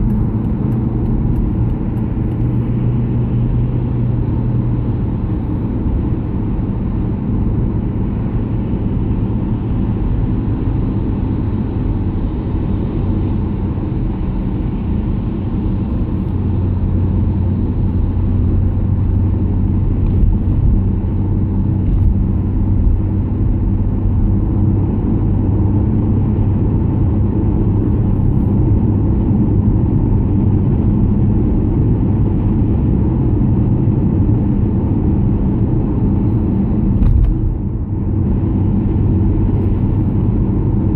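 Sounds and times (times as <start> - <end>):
tyres and engine rumble: 0.0 - 40.9.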